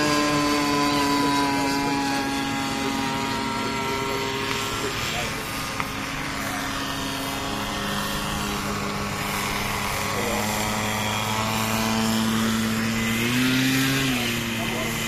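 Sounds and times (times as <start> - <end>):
model airplane engine running: 0.0 - 15.0.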